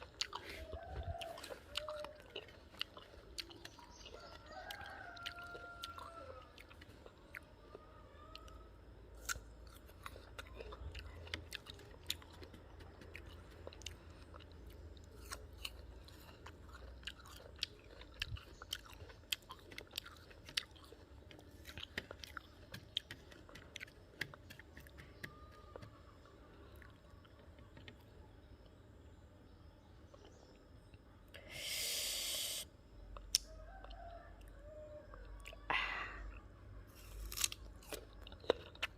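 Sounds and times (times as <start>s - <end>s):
crunchy chewing of fruit: 0.0s - 38.9s.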